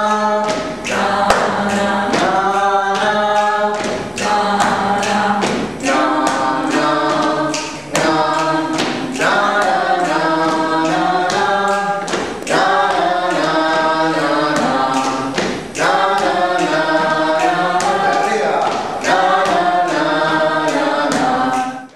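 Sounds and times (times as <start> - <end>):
group singing a cappella: 0.0 - 21.9
hand claps: 0.0 - 21.9.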